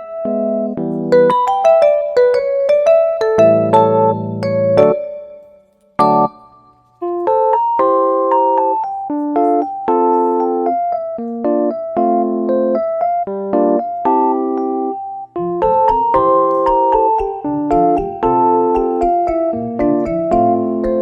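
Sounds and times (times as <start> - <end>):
soft electric piano chords: 0.0 - 21.0.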